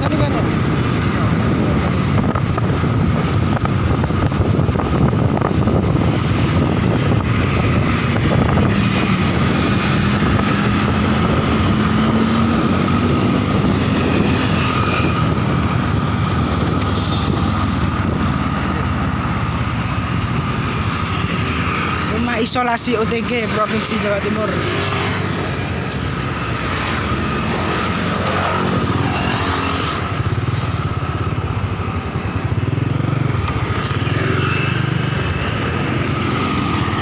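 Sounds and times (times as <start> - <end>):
motorcycle engine: 0.0 - 37.0
road noise: 0.0 - 37.0
wind buffeting microphone: 0.0 - 37.0.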